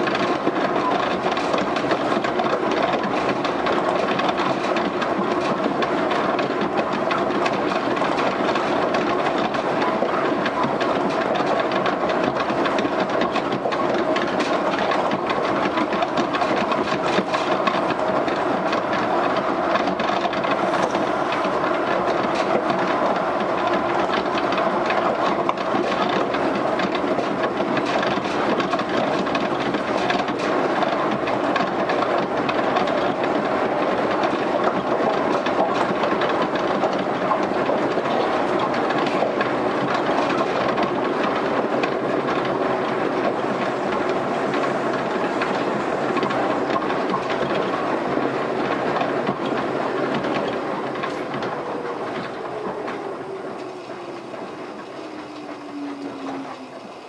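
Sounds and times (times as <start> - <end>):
running gear clicks and knocks: 0.0 - 57.0
train rolling rumble: 0.0 - 57.0.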